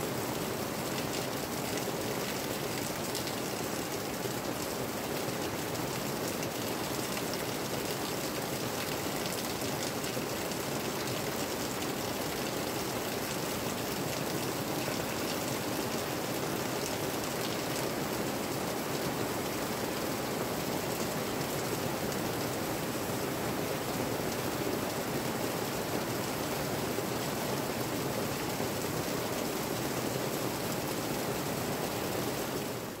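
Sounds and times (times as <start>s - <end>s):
rain on leaves and tarp roof: 0.0s - 33.0s.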